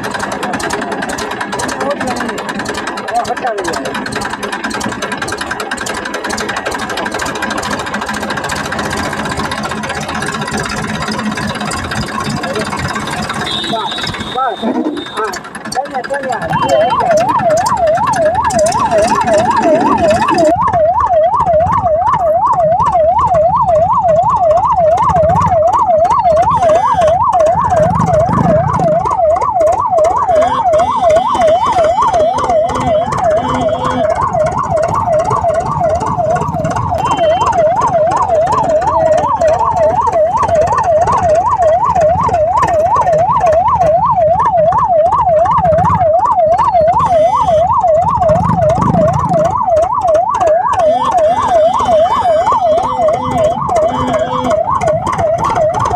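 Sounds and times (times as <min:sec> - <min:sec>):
electronic siren yelping: 0:00.0 - 0:55.9.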